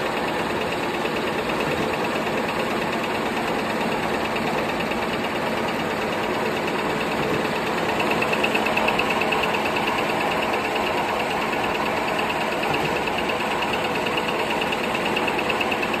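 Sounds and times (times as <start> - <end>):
machine clattering and ticking: 0.0 - 16.0.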